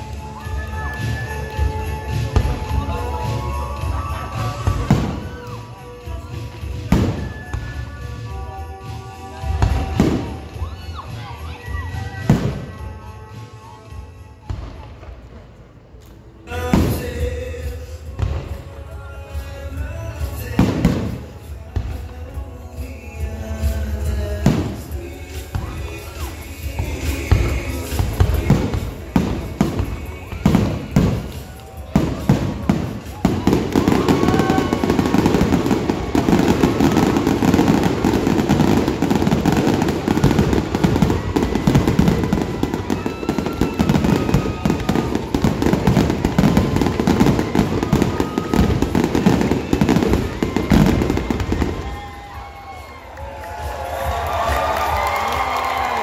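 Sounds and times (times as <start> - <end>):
fireworks barrage and crackle: 0.0 - 56.0.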